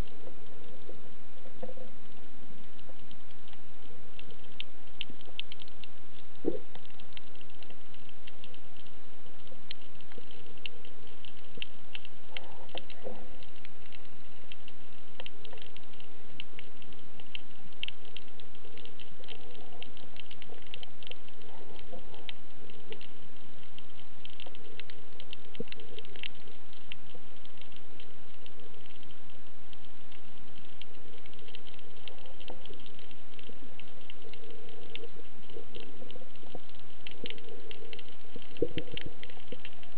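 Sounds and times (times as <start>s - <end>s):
dense crackle of fine clicks: 0.0s - 39.9s
faint low hums: 0.0s - 39.9s.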